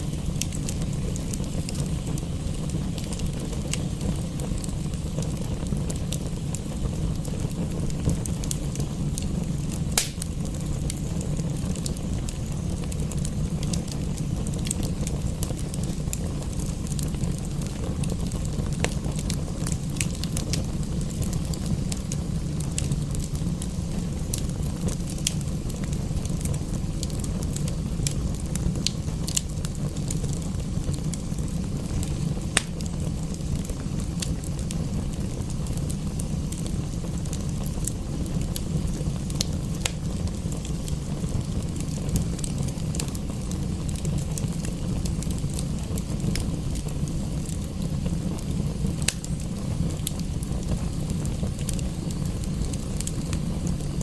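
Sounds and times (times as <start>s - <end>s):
sharp pops of fire: 0.0s - 54.0s
wood fire crackling: 0.0s - 54.0s.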